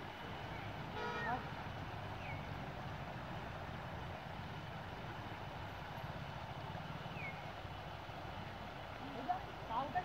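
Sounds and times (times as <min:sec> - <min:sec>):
outdoor rumble and hiss: 0:00.0 - 0:10.0.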